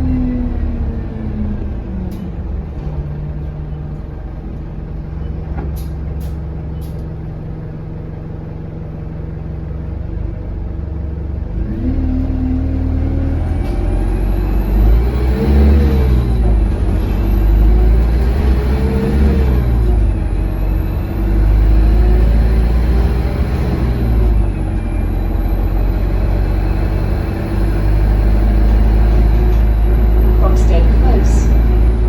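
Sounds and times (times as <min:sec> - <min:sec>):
bus engine revving: 0:00.0 - 0:07.9, 0:10.6 - 0:32.0.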